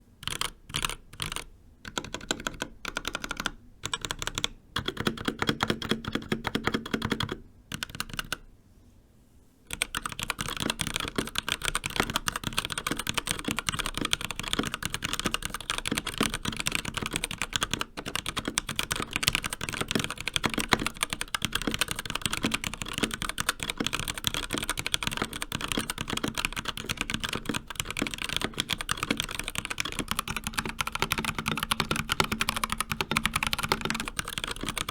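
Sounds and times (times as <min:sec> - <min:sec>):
typing on mechanical keyboard: 0:00.2 - 0:08.4, 0:09.7 - 0:34.9.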